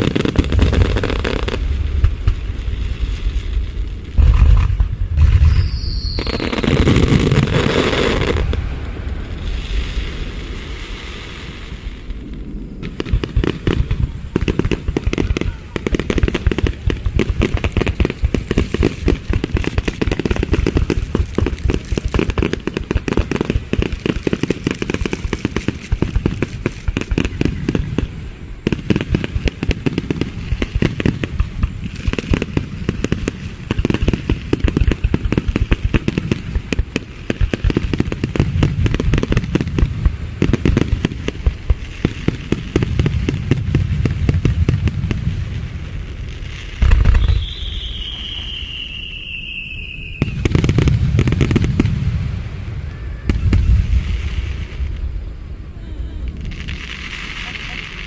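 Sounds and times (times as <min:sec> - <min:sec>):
low rumble of booms: 0:00.0 - 0:49.0
fireworks popping and crackling: 0:00.0 - 0:58.0.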